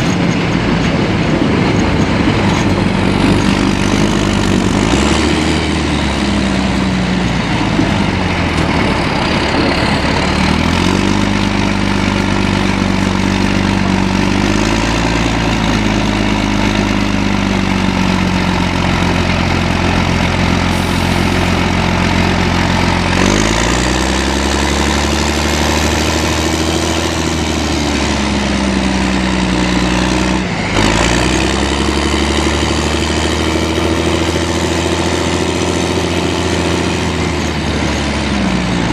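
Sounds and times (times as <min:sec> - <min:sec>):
heavy vehicle engines revving: 0:00.0 - 0:38.9.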